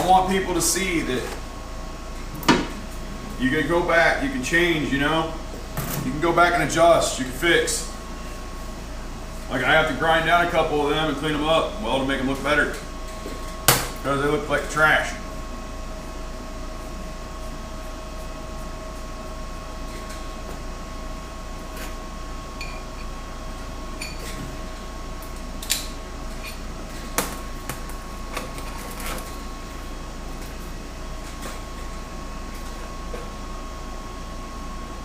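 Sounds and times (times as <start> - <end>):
lower hum tone: 0.0 - 35.0.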